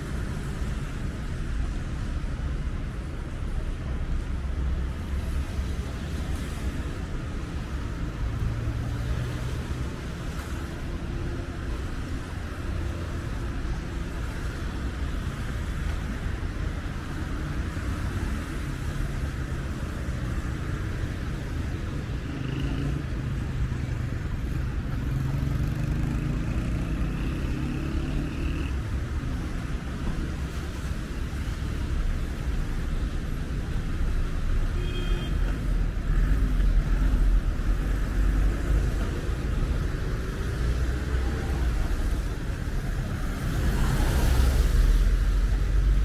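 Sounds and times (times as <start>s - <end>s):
cars passing on wet road: 0.0s - 46.0s.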